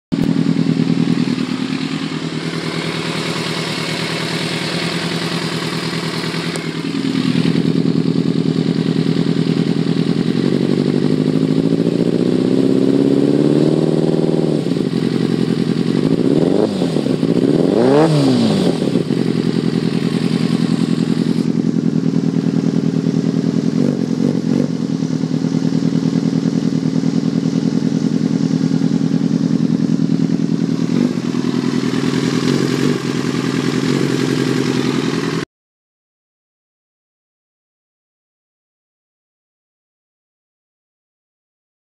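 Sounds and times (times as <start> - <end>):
engine idling and revving: 0.1 - 35.5.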